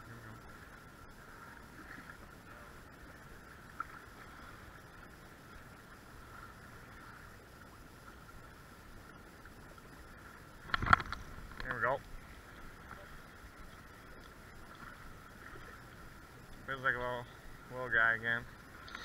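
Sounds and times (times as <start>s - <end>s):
choppy water washing: 0.0s - 19.0s.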